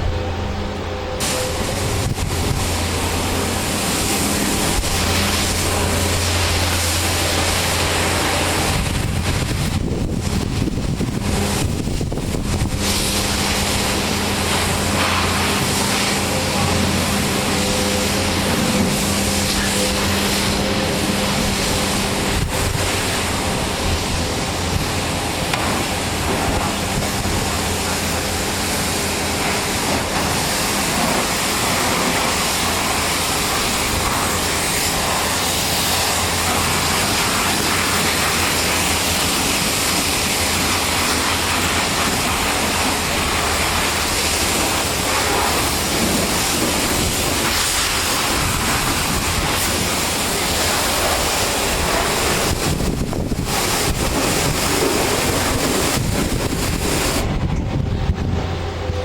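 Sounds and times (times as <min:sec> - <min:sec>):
pressure washer motor drone: 0:00.0 - 0:59.0
water spray hissing: 0:00.7 - 0:57.4.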